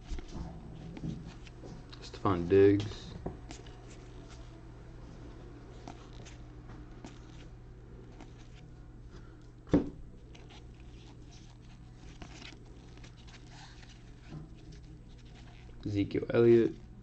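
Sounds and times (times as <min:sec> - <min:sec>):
trading cards rustling and flipping: 0:00.0 - 0:09.5, 0:10.2 - 0:17.0.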